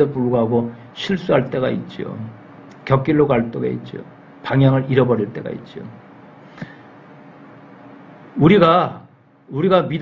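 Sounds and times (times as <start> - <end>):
background hiss and hum: 0.0 - 10.0.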